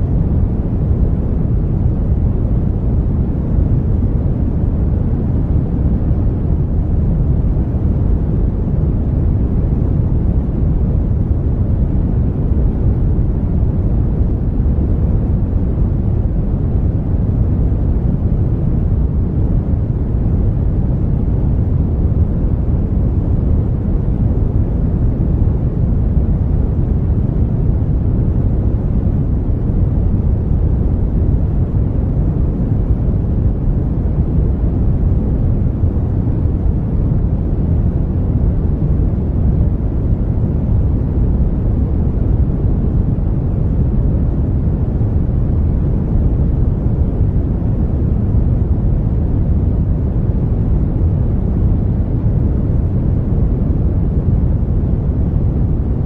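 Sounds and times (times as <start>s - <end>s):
brown noise rumble: 0.0s - 56.0s.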